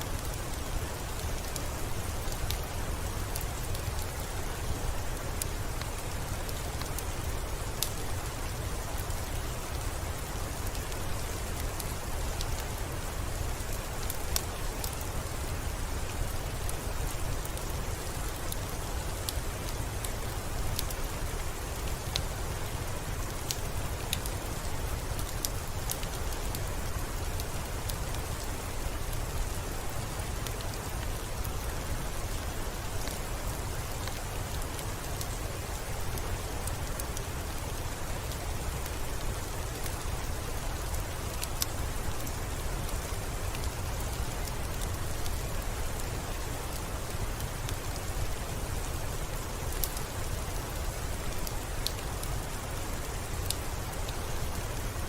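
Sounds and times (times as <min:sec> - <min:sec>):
steady rain: 0:00.0 - 0:55.0
wood fire crackling: 0:00.0 - 0:55.0.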